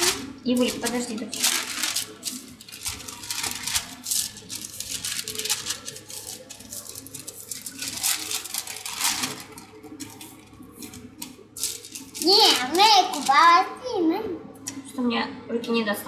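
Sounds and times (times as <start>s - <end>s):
baking parchment crinkling: 0.0s - 13.4s.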